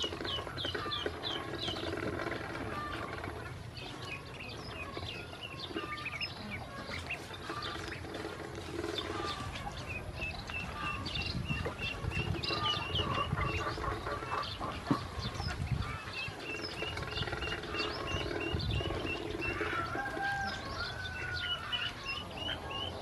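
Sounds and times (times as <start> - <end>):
ducklings cheeping: 0.0 - 23.0.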